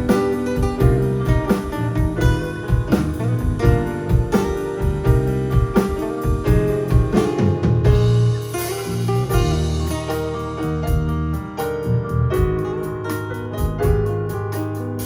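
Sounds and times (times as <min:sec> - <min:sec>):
drum kit: 0:00.0 - 0:15.0
guitar: 0:00.0 - 0:15.0
live band playing: 0:00.0 - 0:15.0.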